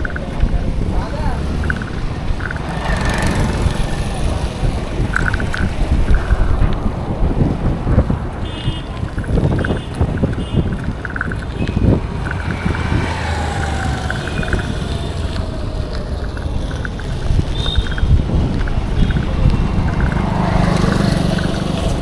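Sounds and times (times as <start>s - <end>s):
traffic rumble: 0.0s - 22.0s
vehicle engine passing: 0.0s - 22.0s
wind buffeting microphone: 0.0s - 22.0s.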